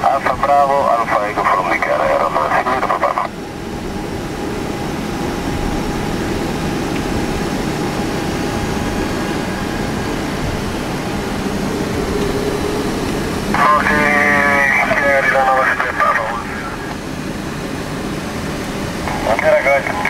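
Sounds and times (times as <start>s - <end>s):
aircraft engine and air-conditioning rumble: 0.0s - 20.0s
faint steady whine: 0.0s - 20.0s.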